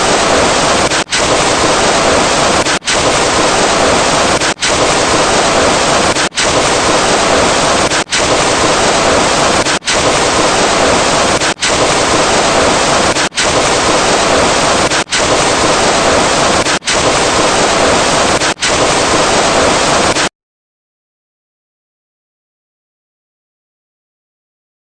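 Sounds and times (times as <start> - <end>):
harsh hiss-like sound effect: 0.0 - 20.3.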